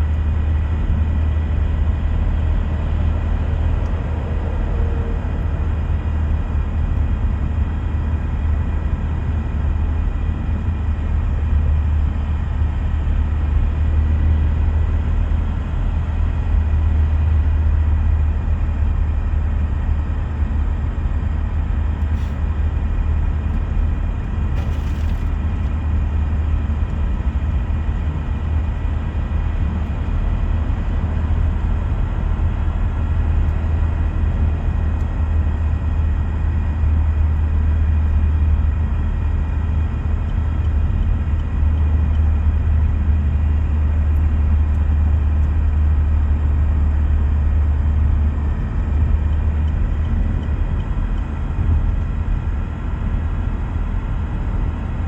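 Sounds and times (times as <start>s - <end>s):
car driving drone: 0.0s - 55.0s.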